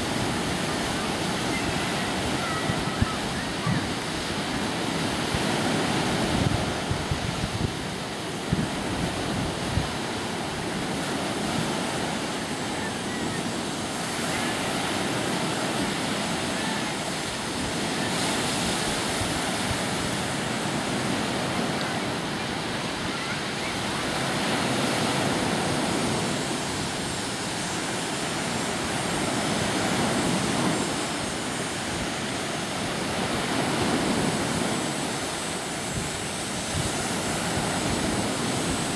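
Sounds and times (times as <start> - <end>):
lake water washing on shore: 0.0 - 38.9
wind buffeting microphone: 0.0 - 38.9.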